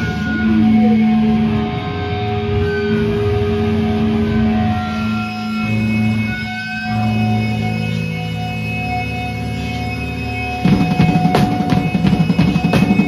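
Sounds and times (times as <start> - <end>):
droning electric guitars and bass: 0.0 - 13.0
whining guitar feedback: 0.0 - 13.0.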